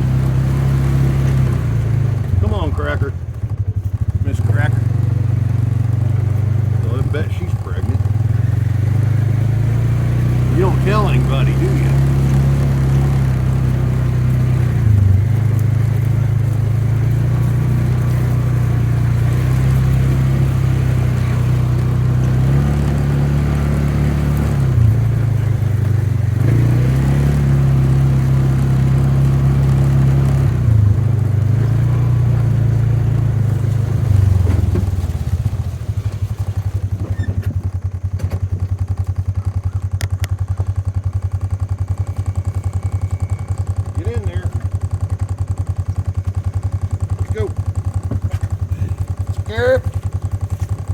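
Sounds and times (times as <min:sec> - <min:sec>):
vehicle engine revving and idling: 0:00.0 - 0:50.9.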